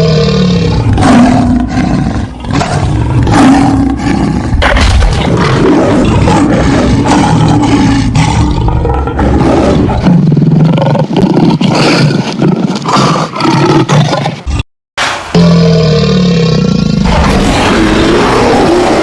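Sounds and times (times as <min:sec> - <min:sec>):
creature roaring and growling: 0:00.0 - 0:12.2, 0:15.3 - 0:19.0.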